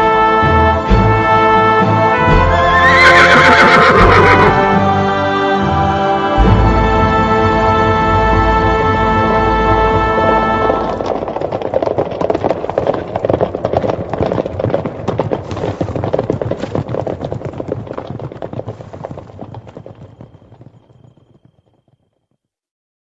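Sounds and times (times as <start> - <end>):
horses galloping hoofbeats: 0.0 - 22.4.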